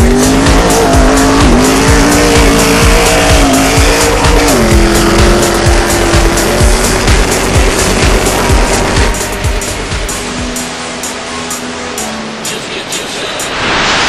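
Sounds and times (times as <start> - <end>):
music with steady beat: 0.0 - 13.8
race engines revving: 0.0 - 14.0.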